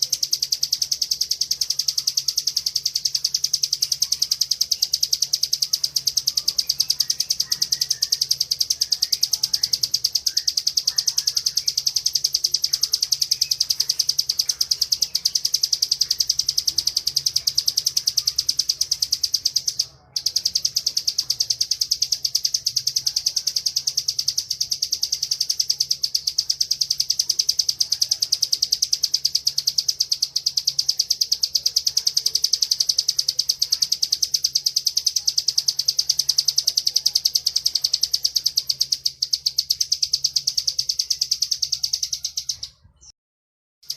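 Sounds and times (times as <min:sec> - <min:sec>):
bird high buzzing trill: 0:00.0 - 0:42.8.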